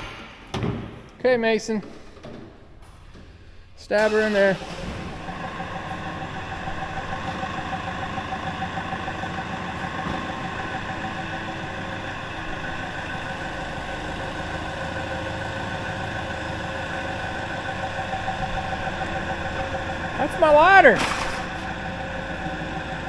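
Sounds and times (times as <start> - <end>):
diesel engine idling: 2.8 - 23.0
steady whine: 2.8 - 23.0.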